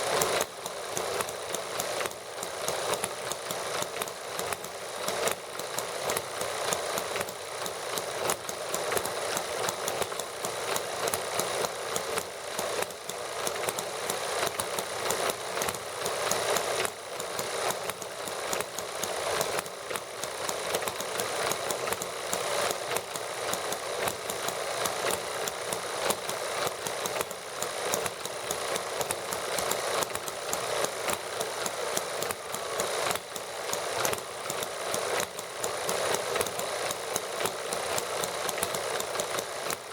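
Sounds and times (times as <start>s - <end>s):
small model engines running: 0.0s - 39.9s.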